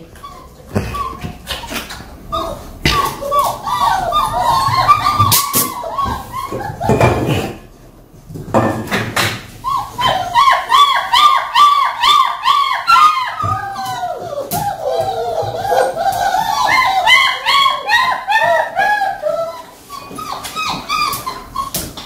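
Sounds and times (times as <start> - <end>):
puppies whining: 0.0 - 7.6, 9.6 - 22.0.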